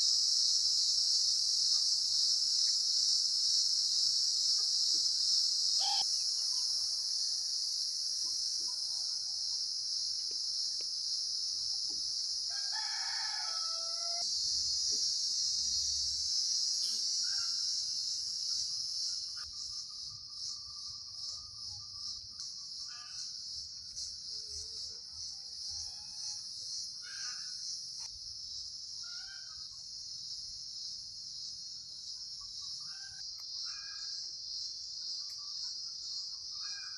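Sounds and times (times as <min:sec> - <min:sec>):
high-pitched insect chorus: 0:00.0 - 0:36.9.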